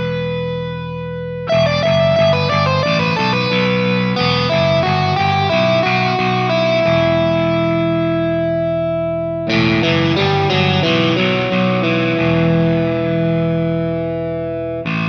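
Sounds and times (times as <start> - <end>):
electric guitar sustained notes: 0.0 - 15.0.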